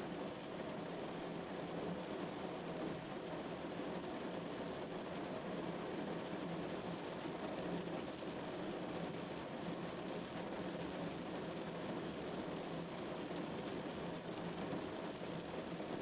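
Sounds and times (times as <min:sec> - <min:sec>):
rain drumming on a car: 0:00.1 - 0:16.0.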